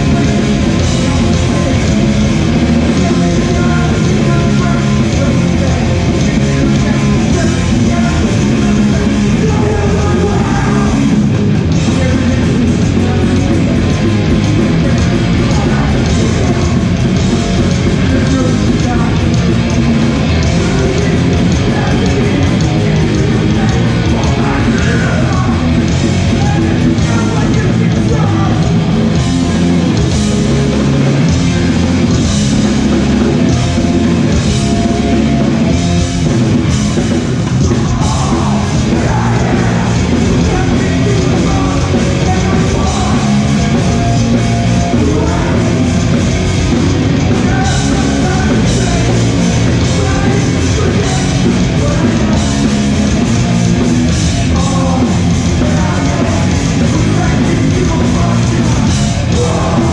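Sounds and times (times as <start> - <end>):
punk band playing: 0.0 - 59.9
shouted lead vocal: 0.0 - 59.9.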